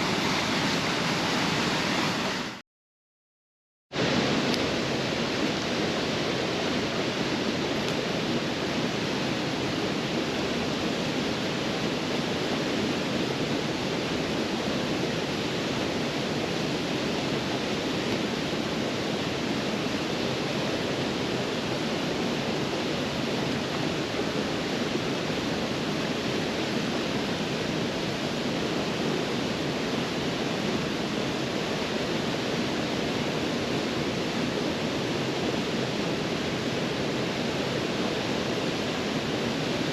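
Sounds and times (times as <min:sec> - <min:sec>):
waterfall rushing: 0:00.0 - 0:02.6, 0:04.0 - 0:39.9.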